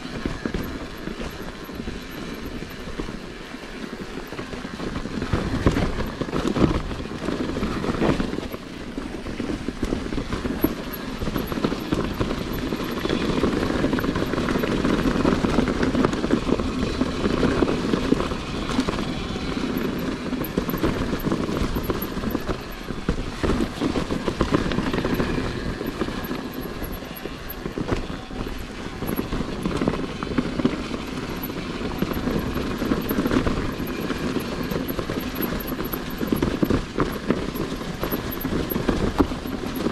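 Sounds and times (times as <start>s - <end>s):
bike rattling: 0.0s - 39.9s
tyres rumbling on gravel: 0.0s - 39.9s.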